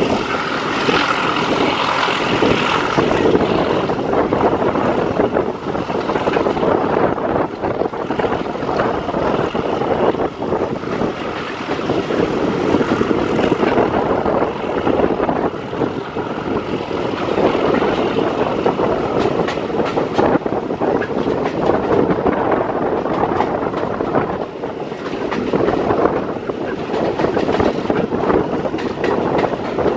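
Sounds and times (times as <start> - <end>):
diesel locomotive drone: 0.0 - 29.9
train wheels rumbling on rails: 0.0 - 29.9.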